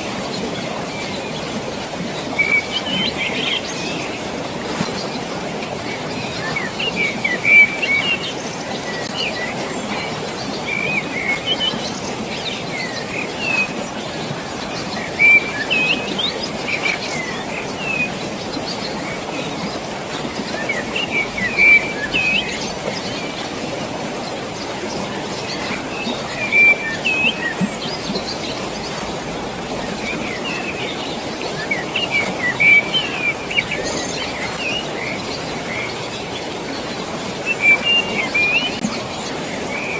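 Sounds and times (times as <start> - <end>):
flowing water: 0.0 - 39.9
songbirds chirping: 0.0 - 39.9.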